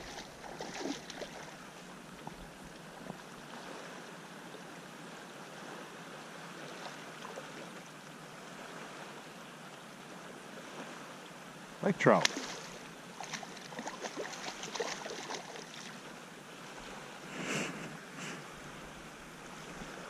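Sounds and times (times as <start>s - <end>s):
small waves lapping shore: 0.0s - 20.0s.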